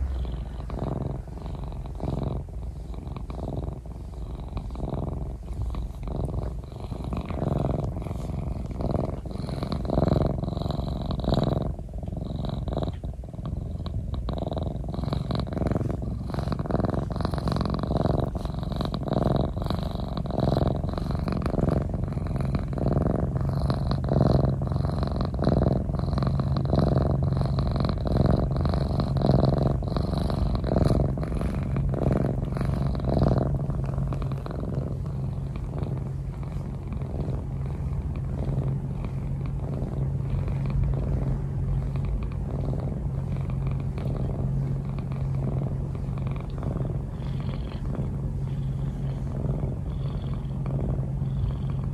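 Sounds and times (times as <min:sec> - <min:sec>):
cat purring: 0:00.0 - 0:51.9.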